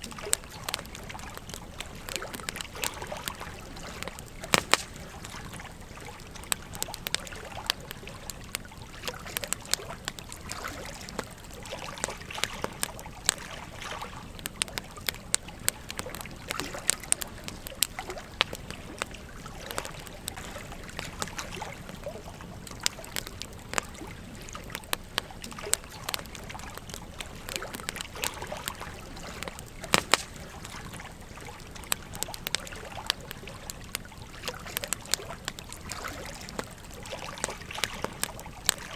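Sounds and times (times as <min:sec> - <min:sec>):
campfire crackling and popping: 0:00.0 - 0:38.9
gentle stream trickling: 0:00.0 - 0:38.9.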